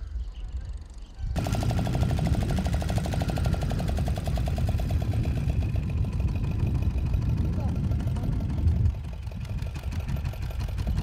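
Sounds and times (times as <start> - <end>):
boat engine running: 0.7 - 11.0.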